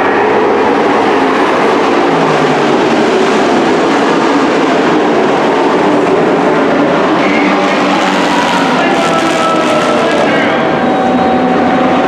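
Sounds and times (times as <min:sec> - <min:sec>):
racing truck engines droning: 0:00.0 - 0:12.0.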